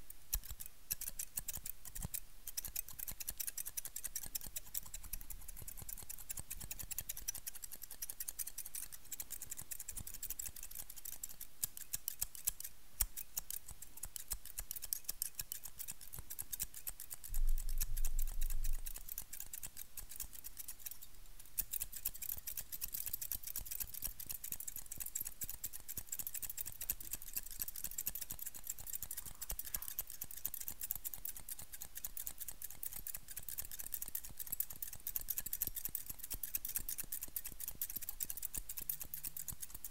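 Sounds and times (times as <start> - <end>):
scissors snipping: 0.0 - 39.9.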